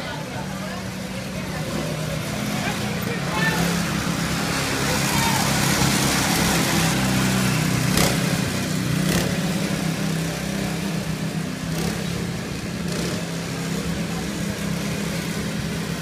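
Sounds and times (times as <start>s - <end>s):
go-kart engines droning: 0.0s - 16.0s.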